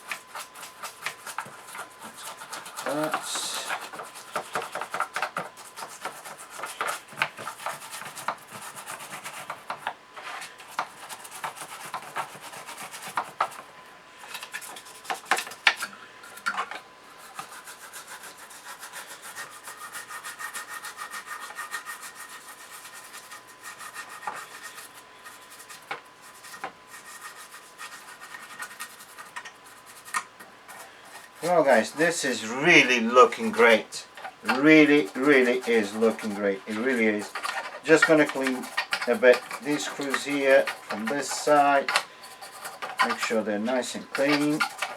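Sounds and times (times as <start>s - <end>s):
toothbrush scrubbing metal: 0.0s - 44.9s.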